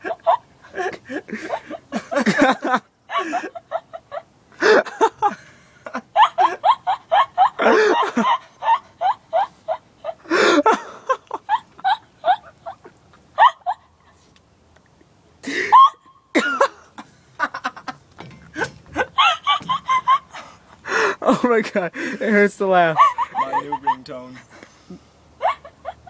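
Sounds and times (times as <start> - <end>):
woman laughing: 0.0 - 13.9, 15.4 - 22.3, 22.9 - 26.0.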